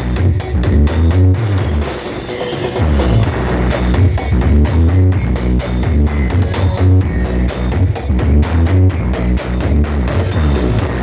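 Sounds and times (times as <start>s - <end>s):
electronic dance music: 0.0s - 11.0s
heavy pounding bass beat: 0.0s - 11.0s.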